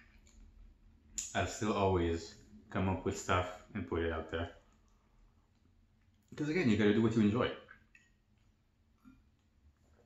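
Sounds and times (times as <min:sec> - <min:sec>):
faint small sound: 0:00.0 - 0:10.0.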